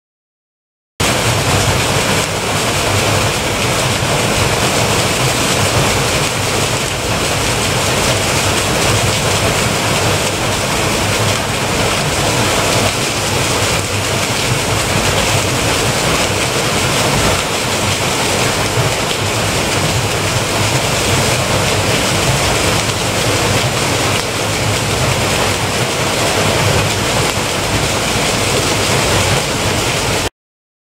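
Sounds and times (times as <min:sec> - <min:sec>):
water rushing off water wheel: 0:01.0 - 0:30.3.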